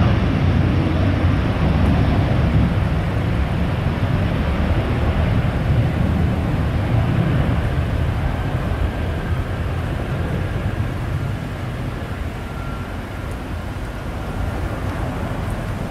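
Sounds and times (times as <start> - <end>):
faint jet whine: 0.0 - 15.9
jet engine rumble: 0.0 - 15.9.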